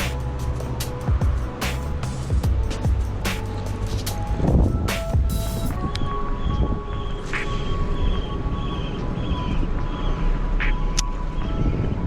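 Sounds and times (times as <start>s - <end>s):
background music with held tones: 0.0s - 12.0s.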